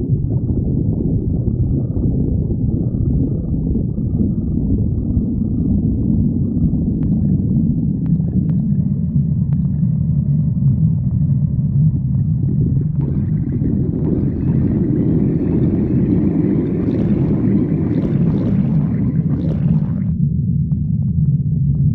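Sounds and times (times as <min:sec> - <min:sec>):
stomach growling: 0:00.0 - 0:20.2.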